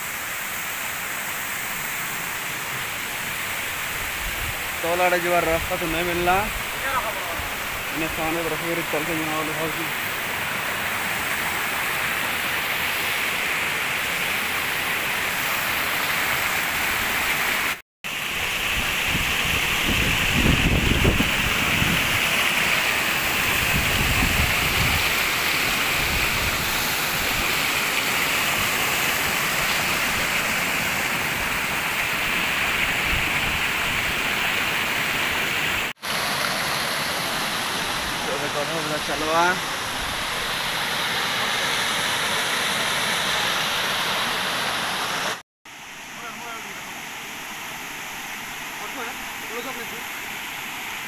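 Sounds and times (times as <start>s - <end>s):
waterfall and rapids rushing: 0.0s - 51.0s.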